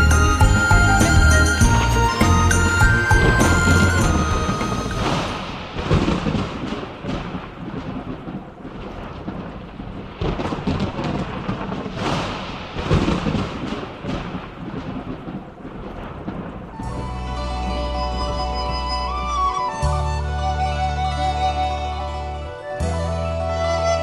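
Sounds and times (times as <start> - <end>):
thunder rolling: 0.0 - 19.8
steady rain: 0.0 - 19.9.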